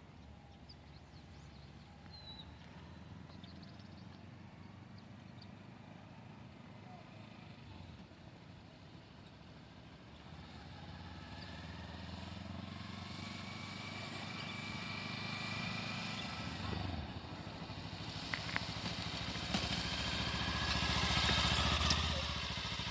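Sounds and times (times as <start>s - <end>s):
motorcycle engine running: 1.4s - 22.9s.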